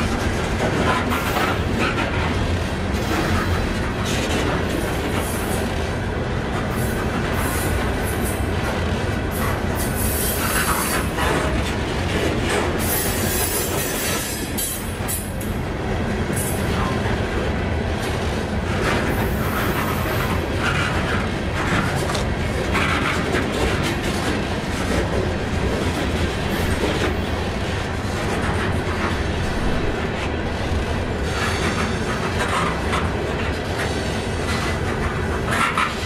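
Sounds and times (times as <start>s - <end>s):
wheels clicking over rail joints: 0.0s - 15.6s, 18.0s - 27.4s, 31.3s - 36.0s
train wheels rumbling on rail: 0.0s - 36.0s.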